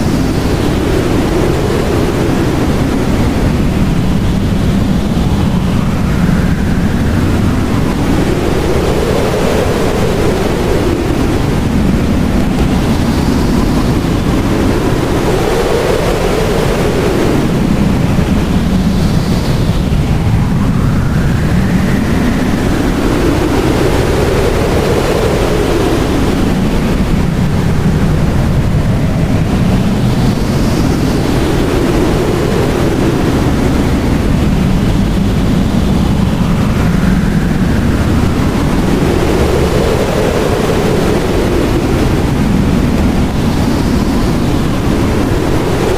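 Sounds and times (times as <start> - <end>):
howling blizzard wind: 0.0 - 45.9.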